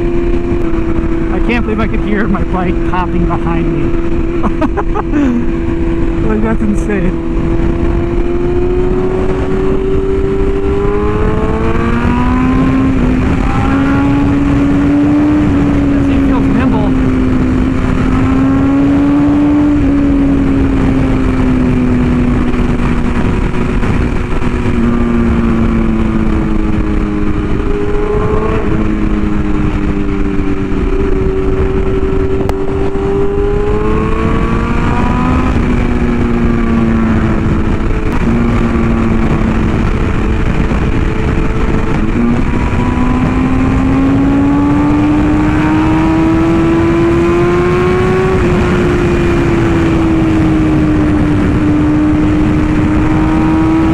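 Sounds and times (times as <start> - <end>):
motorcycle engine revving: 0.0 - 53.9
wind rushing: 0.0 - 53.9.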